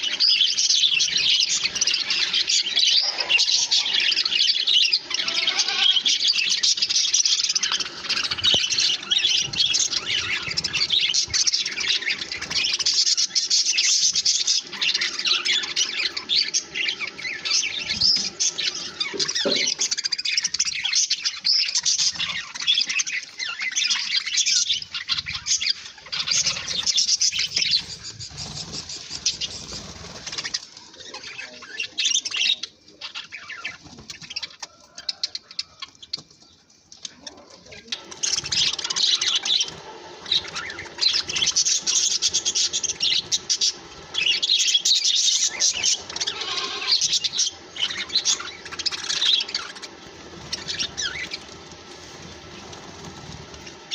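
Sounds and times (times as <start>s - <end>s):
budgerigars chirping and chattering: 0.0s - 53.9s.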